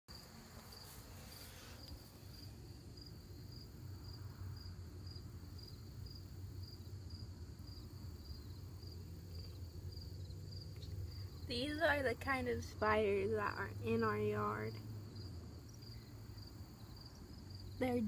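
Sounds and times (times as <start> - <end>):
insect chirping: 0.1 - 18.0
low steady rumble: 0.2 - 18.0.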